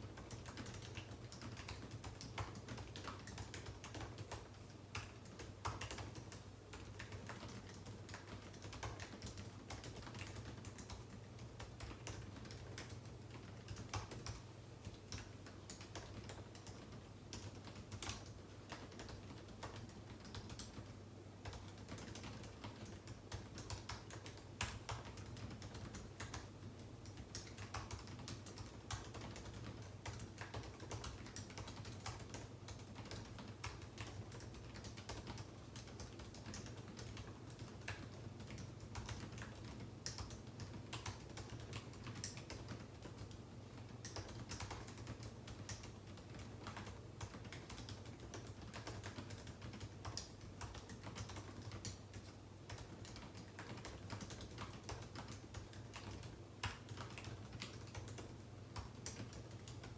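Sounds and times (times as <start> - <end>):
keyboard typing clicks: 0.1 - 59.9.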